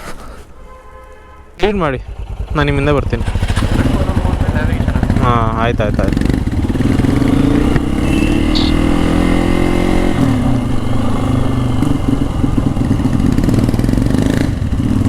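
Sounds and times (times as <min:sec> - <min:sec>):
motorcycle engine accelerating: 0:01.6 - 0:15.0.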